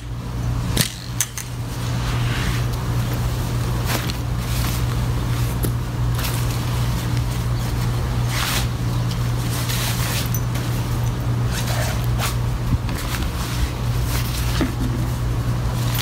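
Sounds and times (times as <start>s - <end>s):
steady low hum: 0.0s - 16.0s
fabric rustling and scraping: 1.6s - 7.1s, 7.7s - 10.9s, 11.5s - 15.9s.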